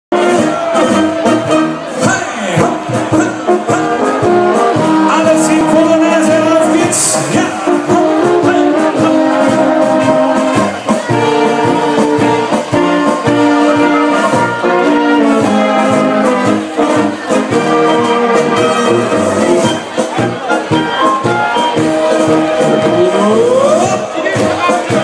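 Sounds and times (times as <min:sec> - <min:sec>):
brass band playing: 0:00.1 - 0:25.0
trumpet lead: 0:00.1 - 0:25.0.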